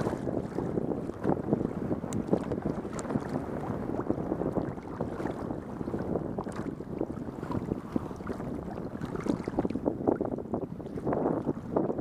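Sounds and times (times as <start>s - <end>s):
water splashing against kayak: 0.0s - 12.0s
wind buffeting microphone: 0.0s - 12.0s.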